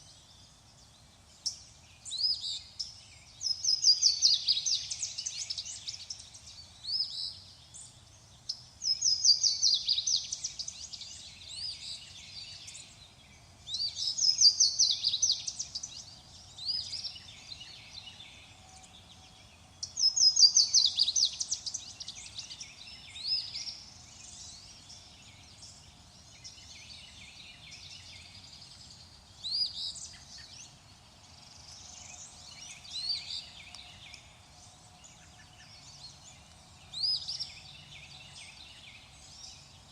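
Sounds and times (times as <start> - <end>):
faint low background noise: 0.0 - 39.9
soft bird chirps: 0.0 - 39.9.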